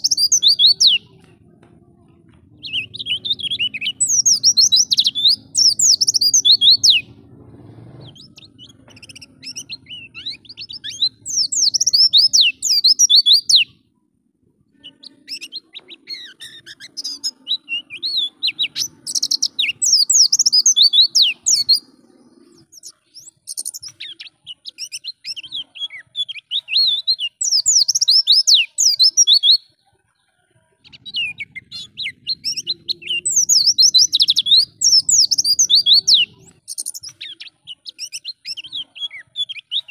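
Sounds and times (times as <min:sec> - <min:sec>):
bird chirping and twittering: 0:00.0 - 0:01.4, 0:02.0 - 0:13.8, 0:14.7 - 0:39.9.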